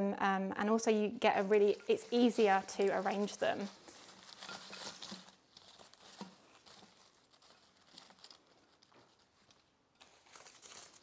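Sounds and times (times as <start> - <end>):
artificial flowers rustling: 0.6 - 11.0.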